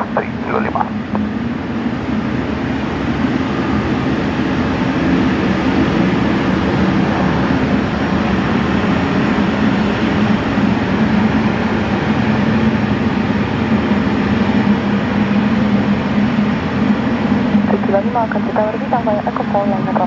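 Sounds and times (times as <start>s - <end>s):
aircraft engines rumbling: 0.0s - 20.0s.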